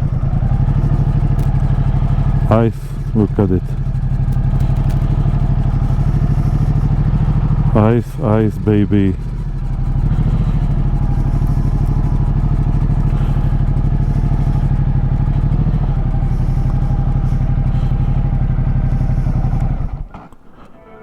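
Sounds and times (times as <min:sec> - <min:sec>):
motorcycle engine idling: 0:00.0 - 0:20.7.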